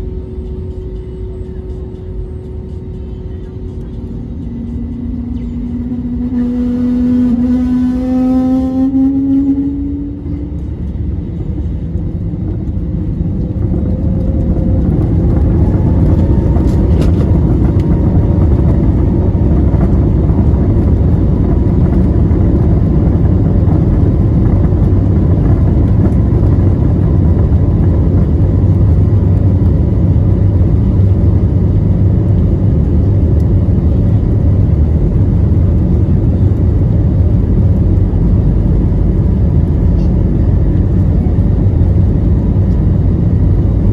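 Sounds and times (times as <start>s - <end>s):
faint engine whine: 0.0s - 43.9s
jet engines at takeoff thrust: 0.0s - 43.9s.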